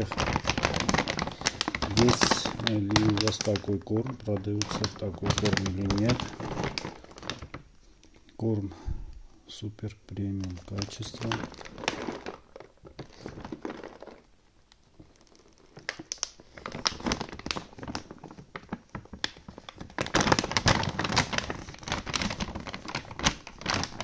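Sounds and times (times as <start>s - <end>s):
plastic bag crinkling: 0.0s - 9.2s, 10.1s - 24.0s.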